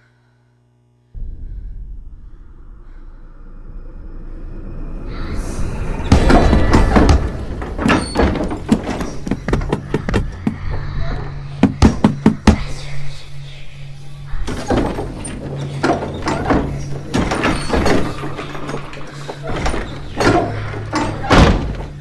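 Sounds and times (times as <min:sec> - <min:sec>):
low steady drone: 0:00.0 - 0:07.8, 0:10.3 - 0:22.0.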